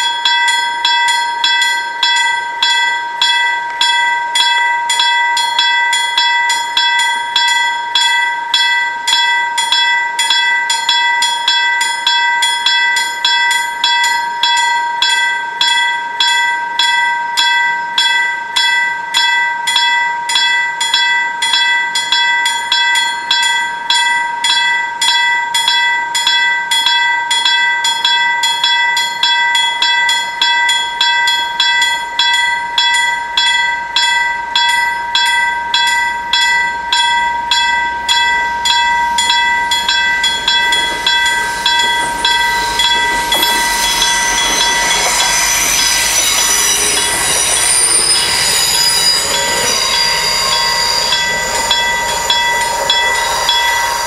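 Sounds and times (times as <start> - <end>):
level-crossing bells ringing: 0.0 - 54.0.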